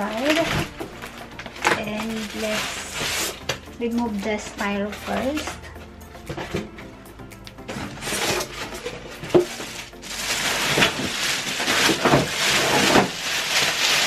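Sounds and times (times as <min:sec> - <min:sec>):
plastic packaging crinkling: 0:00.0 - 0:05.9, 0:07.9 - 0:14.0.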